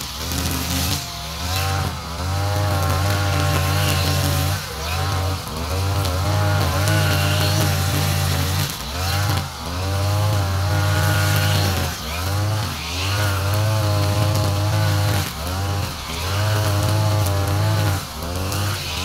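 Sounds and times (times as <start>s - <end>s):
brush cutter engine cutting grass: 0.0s - 19.0s.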